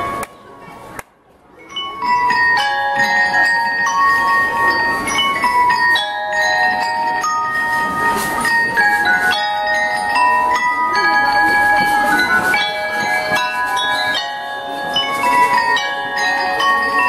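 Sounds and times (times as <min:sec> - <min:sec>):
bell lyre melody: 0:00.0 - 0:00.7, 0:01.5 - 0:17.0.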